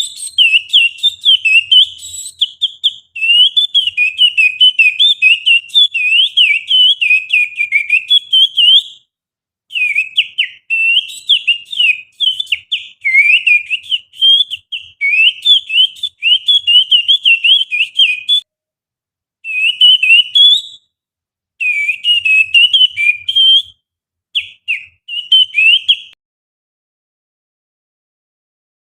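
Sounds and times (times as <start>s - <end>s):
finger whistle imitating birdsong: 0.0s - 9.1s, 9.7s - 18.4s, 19.4s - 21.0s, 21.6s - 26.2s.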